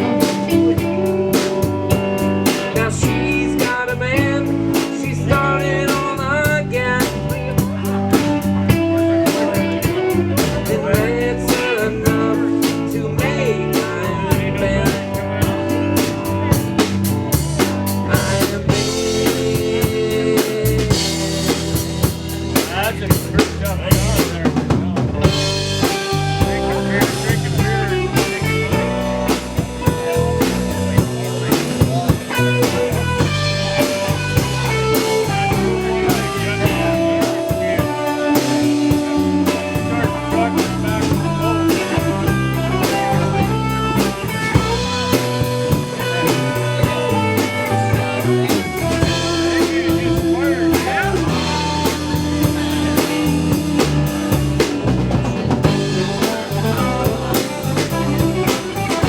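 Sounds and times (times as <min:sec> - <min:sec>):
guitar playing melodic lines: 0:00.0 - 0:24.4, 0:25.0 - 0:59.0
bass: 0:00.0 - 0:59.0
drum kit with rimshots: 0:00.0 - 0:59.0.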